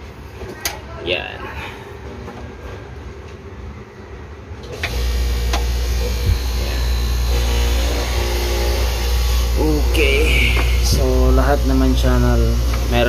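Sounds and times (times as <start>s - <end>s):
loud low mains hum: 0.0s - 13.0s.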